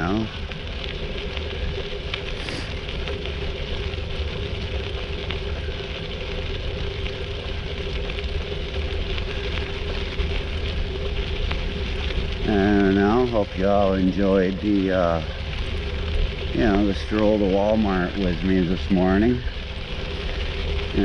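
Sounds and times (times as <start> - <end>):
bicycle tyres crackling on trail: 0.0 - 21.0
low rumble: 0.0 - 21.0
steady hum: 0.0 - 21.0.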